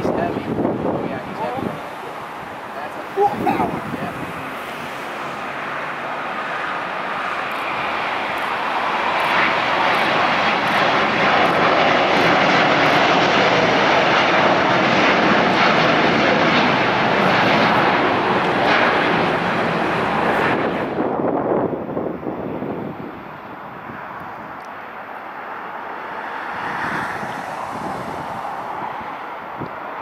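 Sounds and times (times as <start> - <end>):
jet airliner engines rushing: 0.0 - 30.0.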